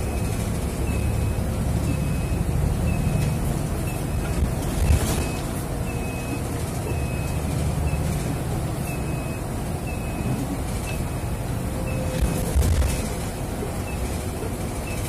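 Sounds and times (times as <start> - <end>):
bus rumbling: 0.0 - 15.0.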